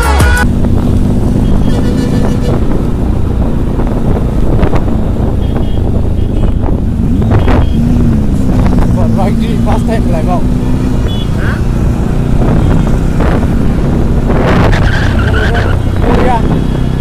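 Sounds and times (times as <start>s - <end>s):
wind buffeting the microphone: 0.4s - 11.1s, 11.7s - 17.0s
motorcycle engine running: 0.4s - 17.0s.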